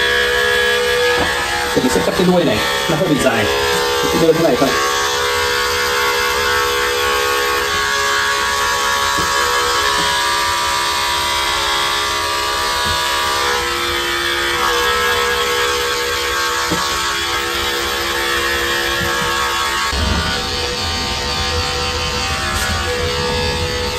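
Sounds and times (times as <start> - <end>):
electric clipper humming: 0.0 - 23.9.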